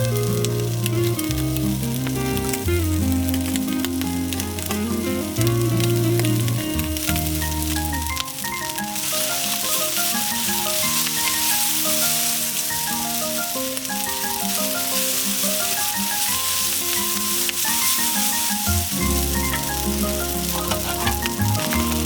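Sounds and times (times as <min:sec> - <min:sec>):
food frying sizzle: 0:00.0 - 0:22.0
instrumental background music: 0:00.0 - 0:22.0.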